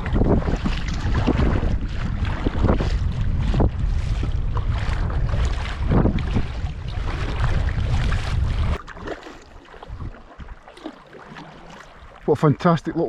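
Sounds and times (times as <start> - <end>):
kayak paddle splashes: 0.0 - 13.0
water against hull: 0.0 - 13.0
wind buffeting microphone: 0.0 - 13.0.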